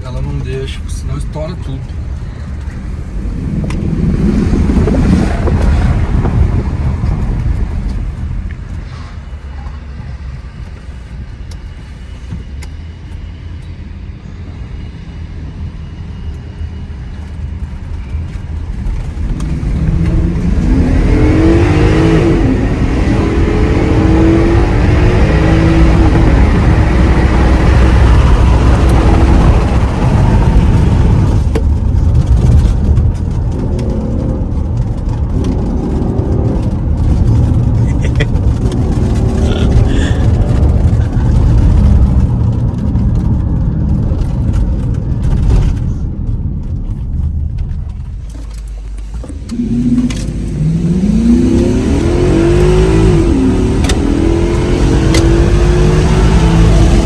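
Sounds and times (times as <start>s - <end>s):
car engine accelerating: 0.0s - 8.8s, 18.3s - 57.0s
road noise: 0.0s - 57.0s.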